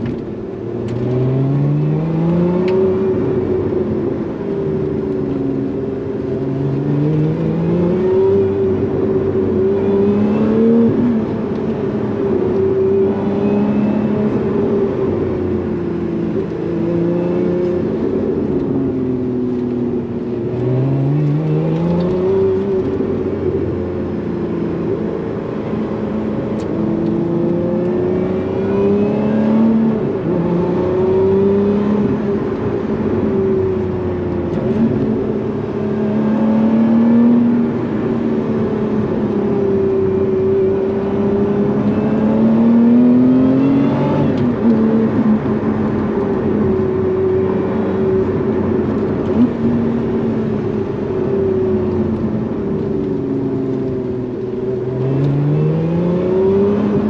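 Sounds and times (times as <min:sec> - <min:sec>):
car engine revving: 0:04.8 - 0:57.0.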